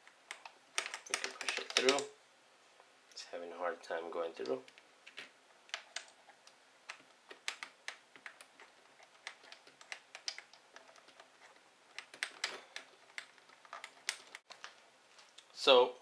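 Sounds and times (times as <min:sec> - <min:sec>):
small parts clicking and tapping: 0:00.0 - 0:02.1, 0:04.4 - 0:15.4.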